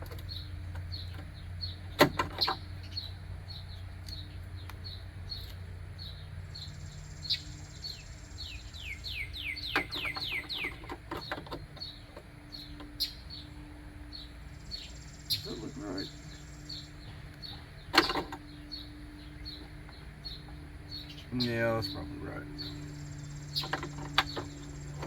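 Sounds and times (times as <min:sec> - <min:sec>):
small songbird chirping: 0:00.0 - 0:25.0.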